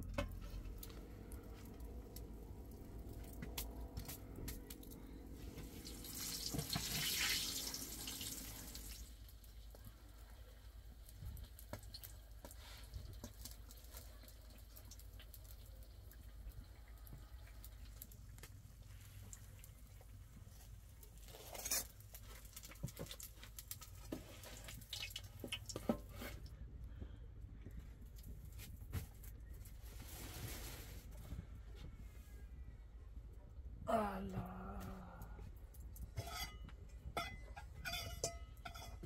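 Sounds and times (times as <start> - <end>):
wood fire crackling: 0.0 - 31.2, 34.8 - 39.0.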